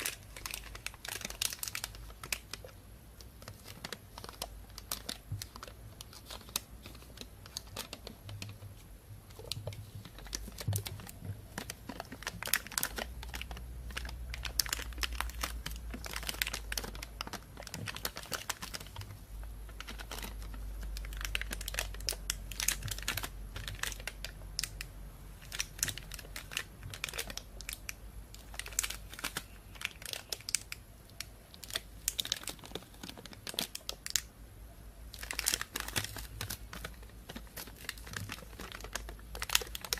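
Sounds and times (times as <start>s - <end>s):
plastic bag crinkling: 0.0s - 34.3s, 35.1s - 39.9s.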